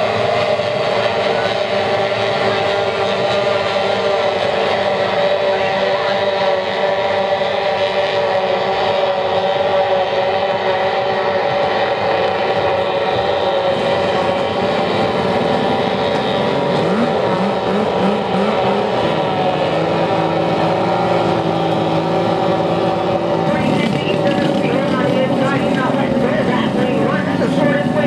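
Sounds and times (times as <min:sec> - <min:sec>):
outboard boat engines whining: 0:00.0 - 0:28.0.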